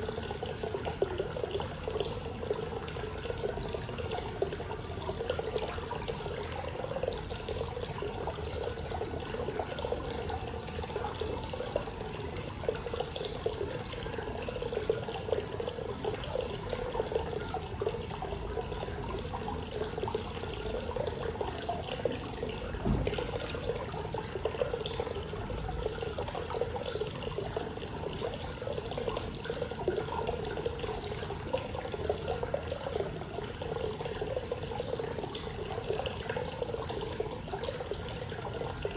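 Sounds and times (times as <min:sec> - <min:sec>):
water pouring into bath: 0:00.0 - 0:38.9.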